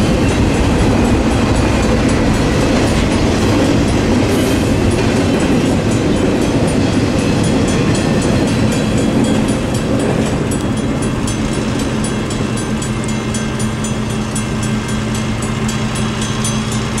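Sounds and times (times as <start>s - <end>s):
freight train cars rumbling past: 0.0s - 17.0s.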